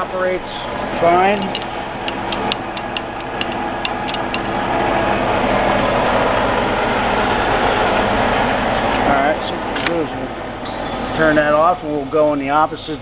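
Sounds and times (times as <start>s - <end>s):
lathe gearing hum: 0.0s - 13.0s.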